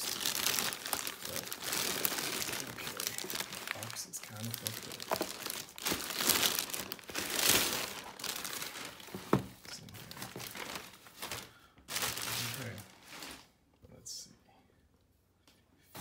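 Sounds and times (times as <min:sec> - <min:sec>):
plastic mailer bag crinkling: 0:00.0 - 0:13.5.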